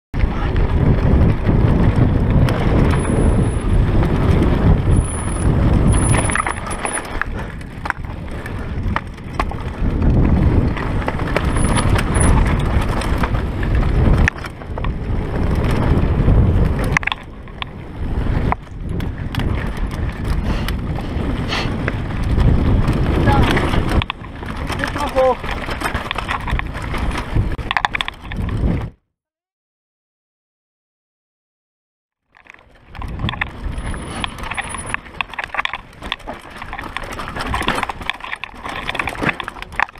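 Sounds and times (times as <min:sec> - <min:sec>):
tyres on loose dirt: 0:00.2 - 0:28.9, 0:32.3 - 0:39.9
bike rattling and knocking: 0:00.2 - 0:29.0, 0:32.3 - 0:39.9
wind rushing on microphone: 0:00.2 - 0:29.0, 0:32.9 - 0:39.9.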